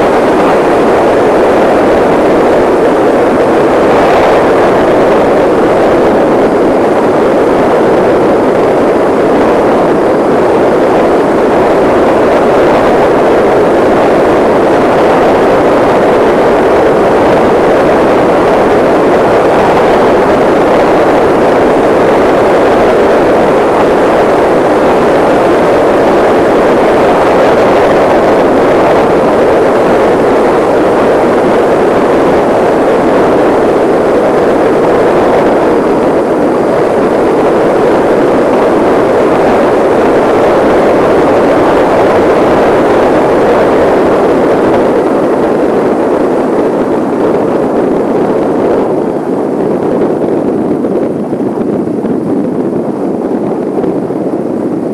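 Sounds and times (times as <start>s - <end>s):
wind rushing on microphone: 0.0s - 54.9s.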